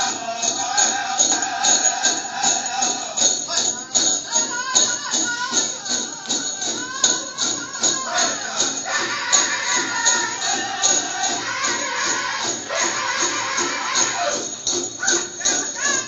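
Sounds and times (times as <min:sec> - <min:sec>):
bells jingling: 0:00.0 - 0:16.0
drum beat: 0:00.0 - 0:16.0
person singing: 0:00.0 - 0:16.0.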